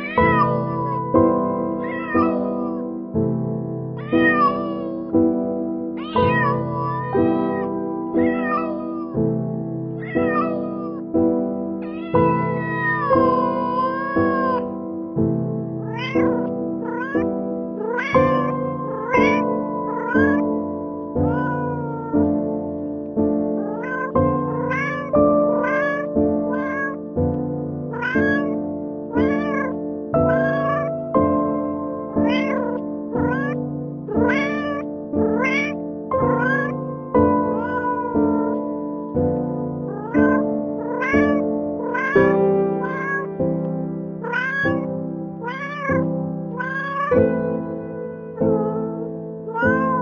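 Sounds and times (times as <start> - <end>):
cat meowing: 0.0 - 3.1, 3.8 - 11.1, 11.8 - 15.1, 15.7 - 22.8, 23.5 - 50.0.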